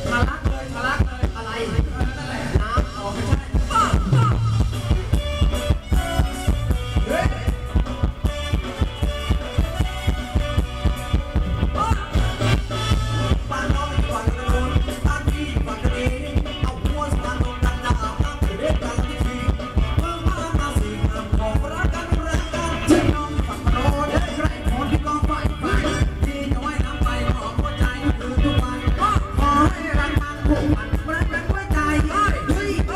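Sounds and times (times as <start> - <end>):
live band playing dance music: 0.0 - 32.9.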